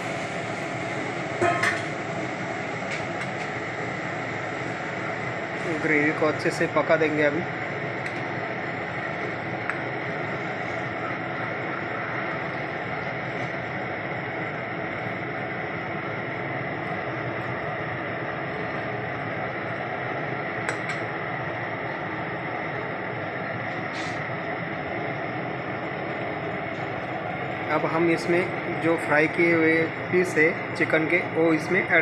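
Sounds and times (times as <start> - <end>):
gas burner: 0.0 - 32.0.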